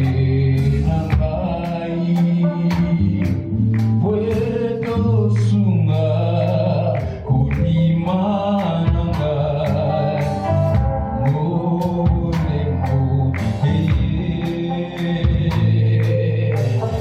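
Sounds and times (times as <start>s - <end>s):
people singing: 0.0s - 17.0s
steady drum beat: 0.0s - 17.0s
worship band playing: 0.0s - 17.0s.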